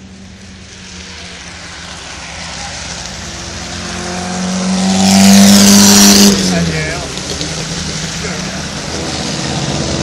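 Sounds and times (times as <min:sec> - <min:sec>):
race car passing: 0:00.0 - 0:10.0.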